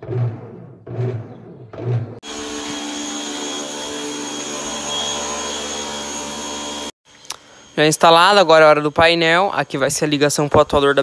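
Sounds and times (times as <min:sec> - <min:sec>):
steady motor drone: 0:01.8 - 0:11.0.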